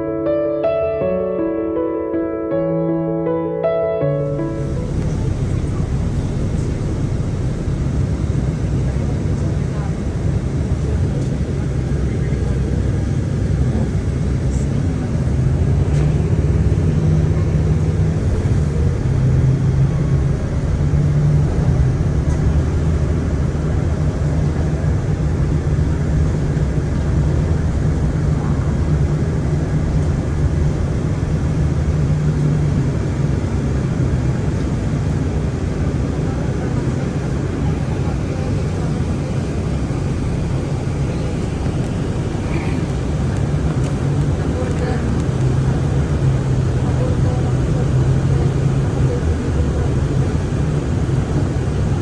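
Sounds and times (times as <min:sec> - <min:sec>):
bus engine and road drone: 0:00.0 - 0:52.0.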